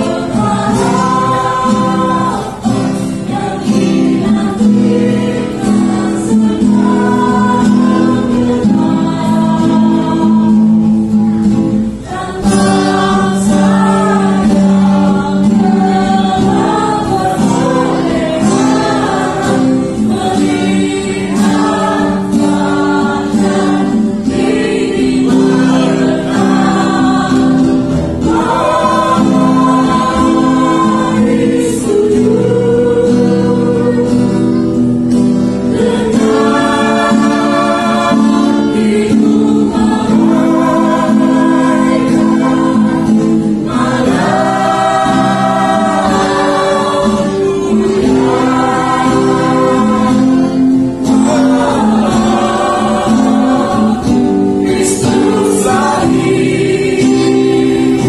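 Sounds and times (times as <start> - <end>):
choir singing gospel music: 0.0 - 58.0.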